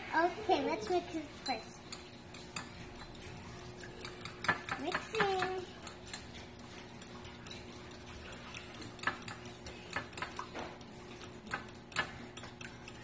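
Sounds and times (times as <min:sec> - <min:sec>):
fork beating egg in bowl: 0:00.0 - 0:13.0.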